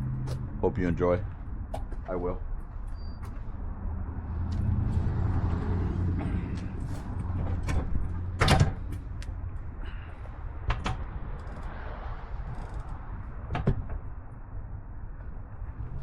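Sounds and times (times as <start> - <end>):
tyre and wind rumble: 0.0 - 16.0.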